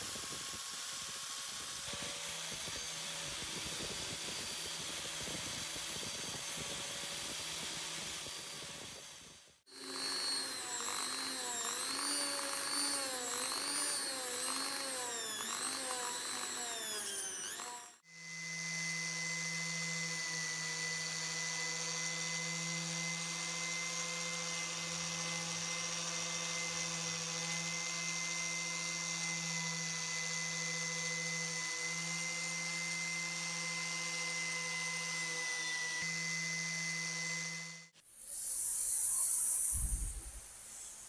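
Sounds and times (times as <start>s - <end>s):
electric power tool motor running: 0.0s - 38.0s.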